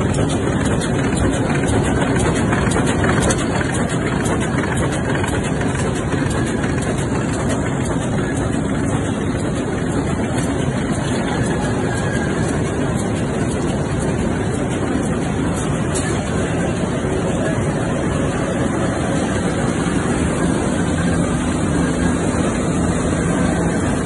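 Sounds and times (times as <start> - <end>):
industrial machine din: 0.0 - 24.0.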